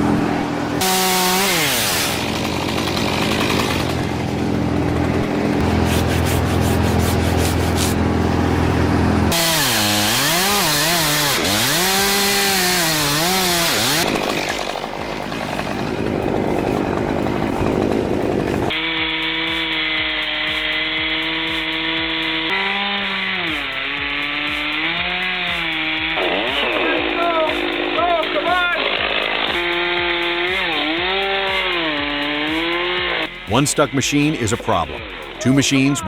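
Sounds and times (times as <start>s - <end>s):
chainsaw engines revving: 0.0s - 36.0s.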